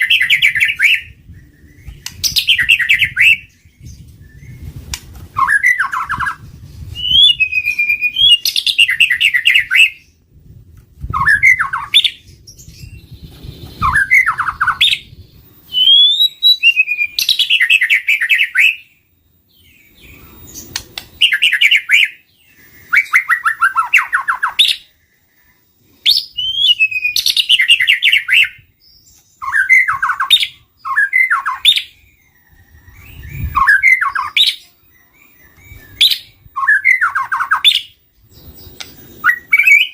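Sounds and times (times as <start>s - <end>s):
bird whistling and chattering: 0.0s - 3.6s, 5.4s - 6.4s, 7.0s - 10.0s, 11.0s - 13.0s, 13.6s - 18.9s, 20.1s - 24.9s, 26.1s - 28.6s, 29.4s - 39.9s.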